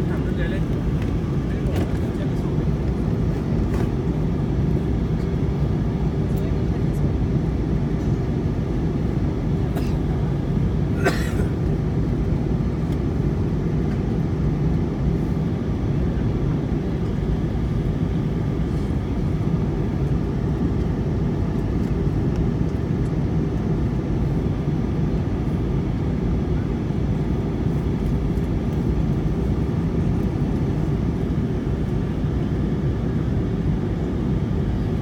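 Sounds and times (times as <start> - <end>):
jet engines and airflow rumble: 0.0 - 35.0.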